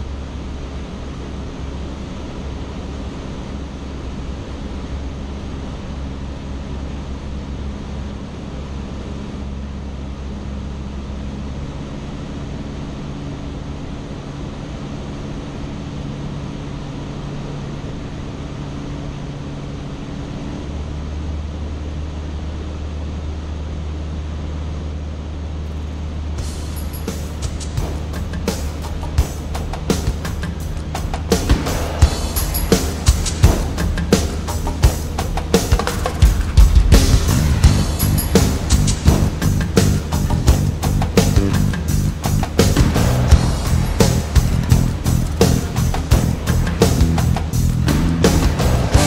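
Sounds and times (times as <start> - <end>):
airflow rush: 0.0 - 49.0
small plane engine drone: 0.0 - 49.0.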